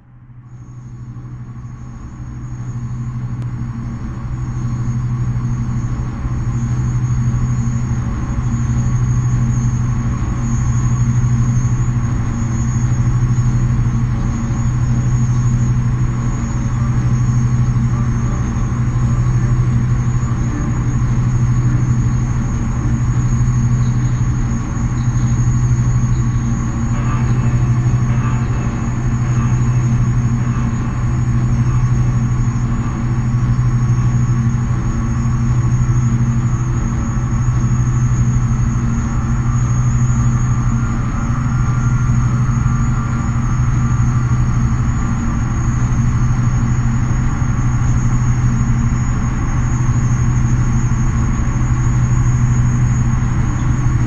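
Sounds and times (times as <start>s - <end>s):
rumbling noise drone: 0.0s - 54.0s.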